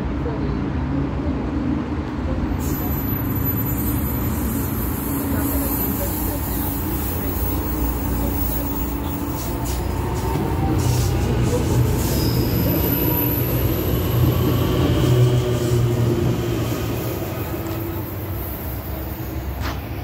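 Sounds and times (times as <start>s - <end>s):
electric train rumbling past: 0.0s - 20.0s
high-pitched squeal: 2.6s - 19.6s.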